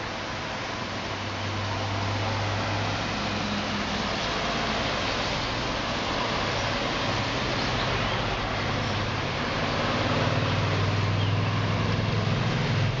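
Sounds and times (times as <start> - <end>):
rain on a wet street: 0.0 - 13.0.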